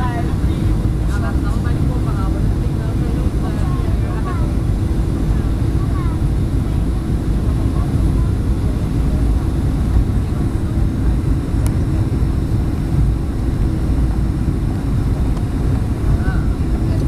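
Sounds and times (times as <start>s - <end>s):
airplane engine rumble in cabin: 0.0s - 17.0s.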